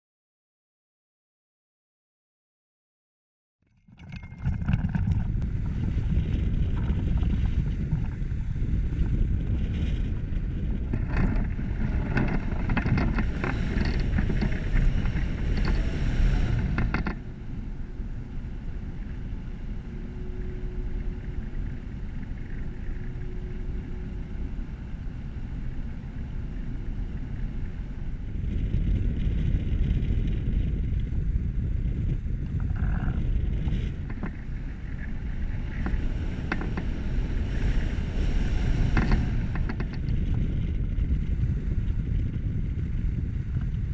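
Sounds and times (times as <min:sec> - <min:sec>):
wind rushing over microphone: 0:04.0 - 0:43.9.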